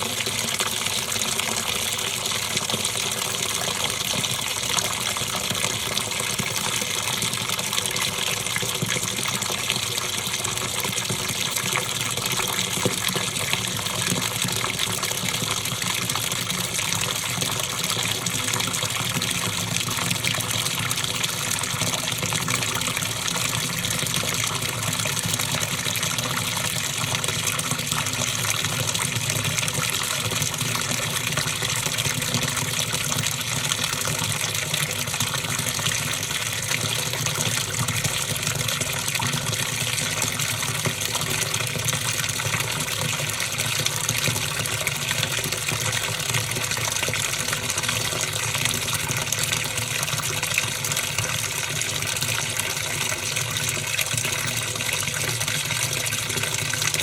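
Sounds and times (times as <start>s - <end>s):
water running into washing machine: 0.0s - 57.0s.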